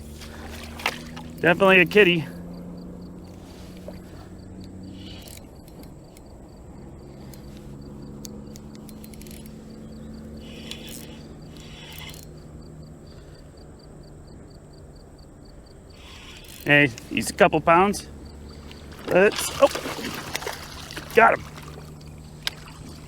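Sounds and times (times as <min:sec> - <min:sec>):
insect chirping: 0:00.0 - 0:23.0
low hum: 0:00.0 - 0:23.0.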